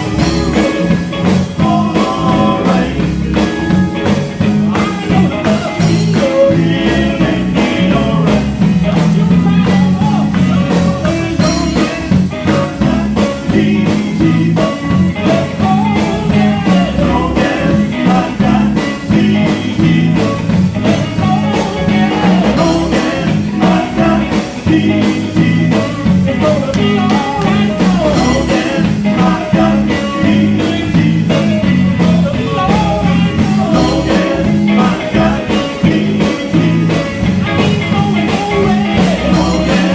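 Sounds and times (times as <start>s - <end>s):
drums with steady beat: 0.0s - 39.9s
electric guitar: 0.0s - 39.9s
group singing gospel: 0.0s - 39.9s.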